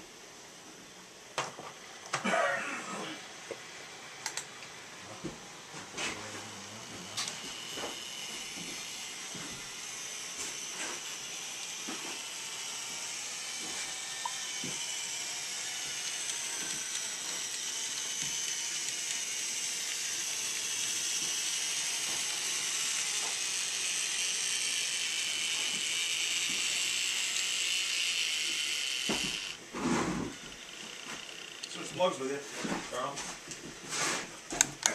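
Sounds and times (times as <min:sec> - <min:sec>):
model train motor whine: 0:00.0 - 0:34.9.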